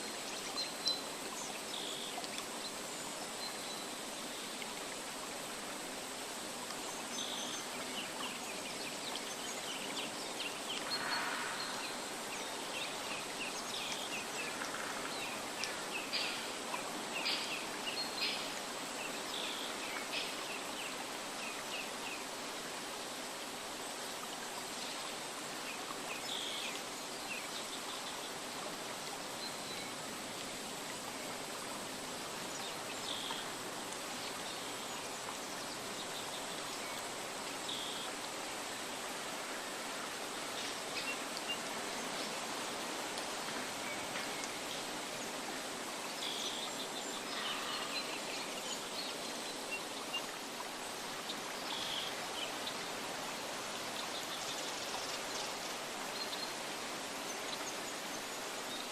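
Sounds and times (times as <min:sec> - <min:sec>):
rushing water: 0:00.0 - 0:58.9.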